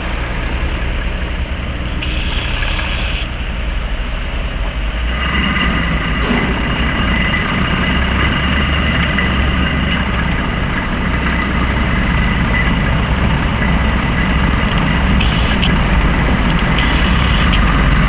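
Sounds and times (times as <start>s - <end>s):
diesel truck engine rumbling: 0.0s - 18.0s
snowblower whine: 1.7s - 4.1s, 5.0s - 18.0s.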